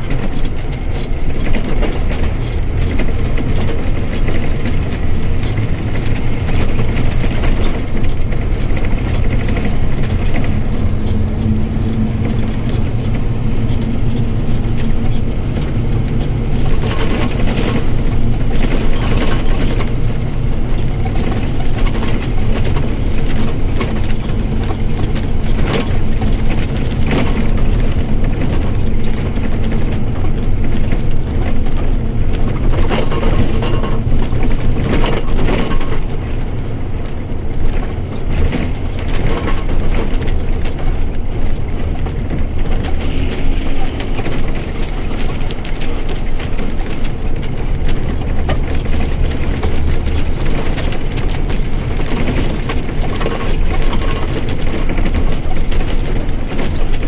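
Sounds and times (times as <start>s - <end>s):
bus engine drone: 0.0s - 57.0s
rattles and knocks: 0.0s - 57.0s.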